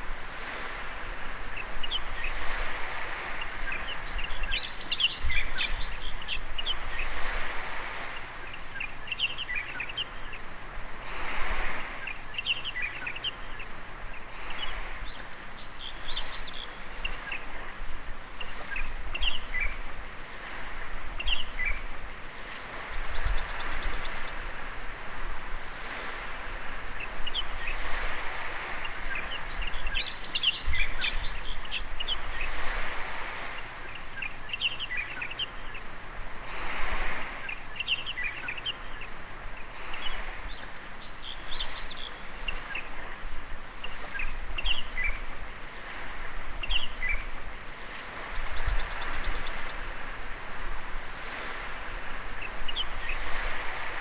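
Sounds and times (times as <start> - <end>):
small birds chirping: 0.0 - 54.0
waves washing on beach: 0.0 - 54.0.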